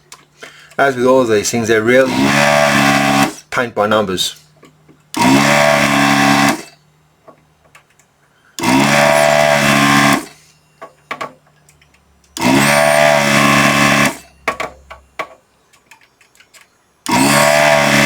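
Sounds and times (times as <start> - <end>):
desoldering vacuum pump humming: 0.0 - 18.0.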